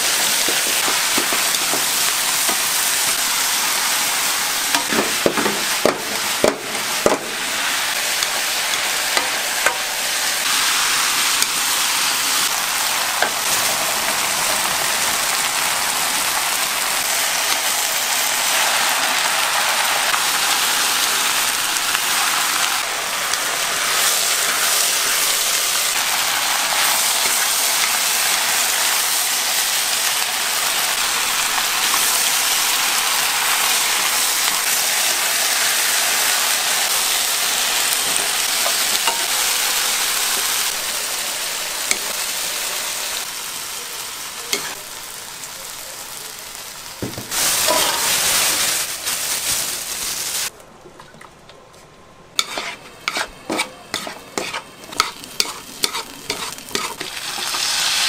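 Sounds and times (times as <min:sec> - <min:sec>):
food sizzling in a pan: 0:00.0 - 0:50.5, 0:52.4 - 0:58.0.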